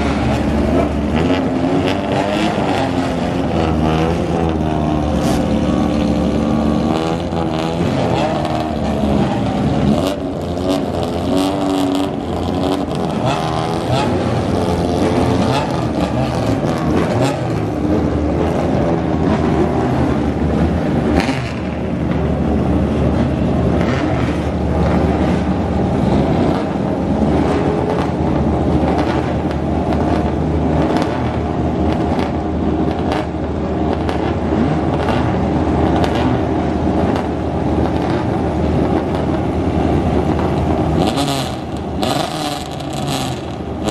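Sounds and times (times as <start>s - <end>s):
racing car engines passing: 0.0s - 43.9s.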